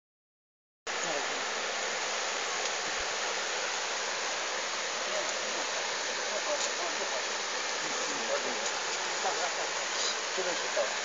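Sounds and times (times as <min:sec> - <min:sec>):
steady hiss: 0:00.9 - 0:11.0.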